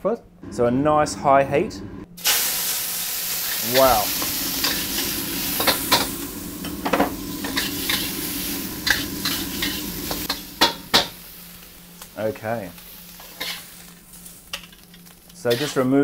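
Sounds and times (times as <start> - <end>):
prawns sizzling in a wok: 2.2 - 16.0.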